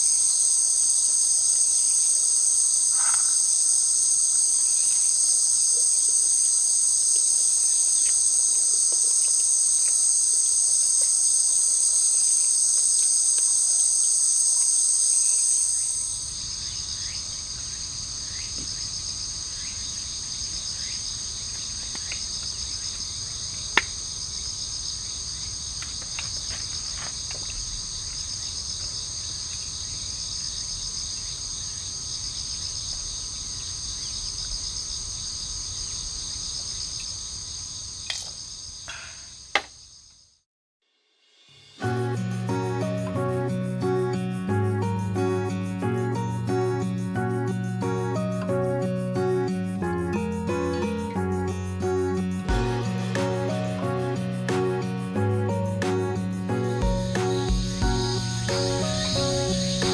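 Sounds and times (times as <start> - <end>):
crickets and insects trilling: 0.0 - 40.4, 50.0 - 59.9.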